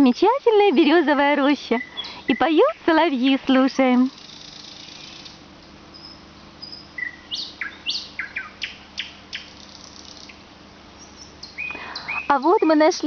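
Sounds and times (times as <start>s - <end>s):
nightingale singing: 0.0s - 13.0s.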